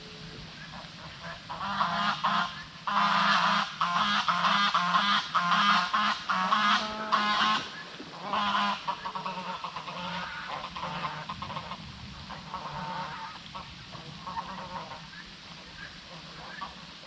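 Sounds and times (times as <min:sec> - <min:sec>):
large birds honking: 0:00.5 - 0:16.8.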